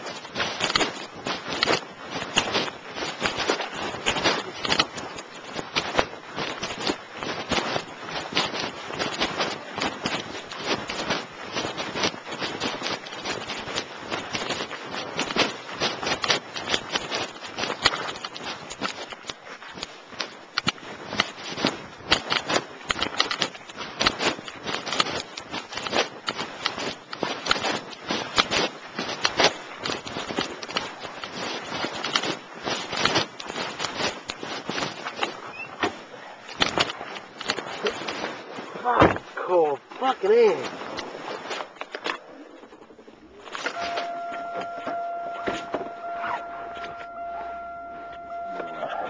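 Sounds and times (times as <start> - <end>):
footsteps crunching: 0.0 - 49.0.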